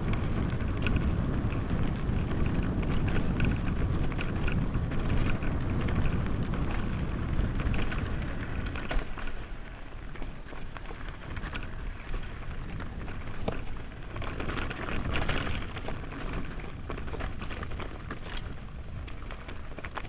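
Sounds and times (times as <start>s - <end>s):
bike tyres on dirt: 0.0s - 20.0s
wind rumble on microphone: 0.0s - 20.0s.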